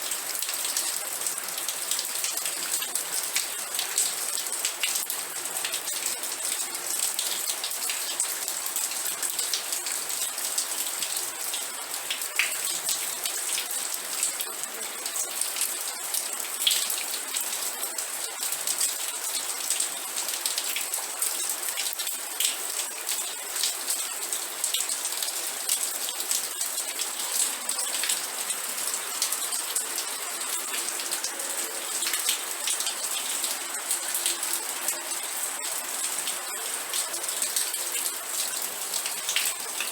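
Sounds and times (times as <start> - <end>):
rain pattering on hard surface: 0.0 - 39.9.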